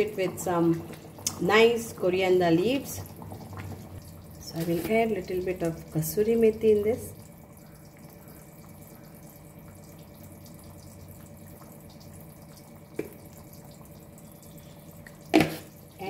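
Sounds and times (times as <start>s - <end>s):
thick curry bubbling: 0.0s - 16.0s.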